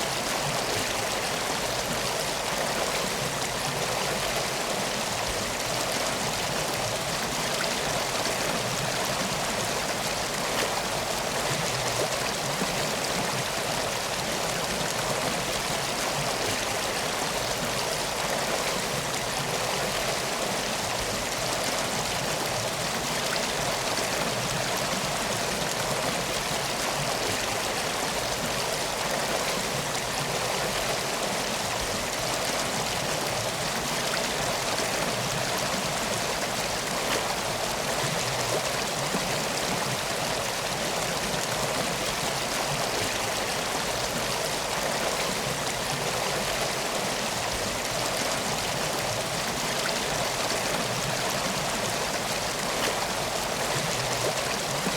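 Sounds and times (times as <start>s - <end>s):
river flowing: 0.0s - 54.9s.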